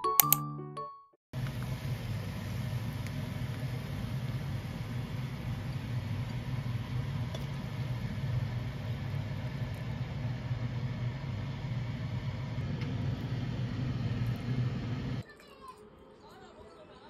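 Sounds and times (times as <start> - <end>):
range hood fan humming: 1.4 - 15.2.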